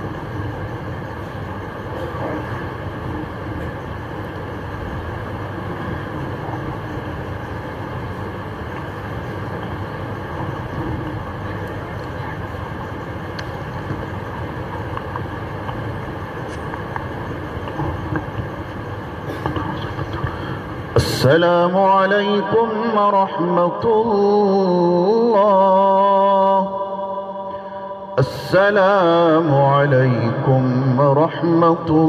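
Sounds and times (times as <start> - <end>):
low room rumble and hum: 0.0 - 32.0.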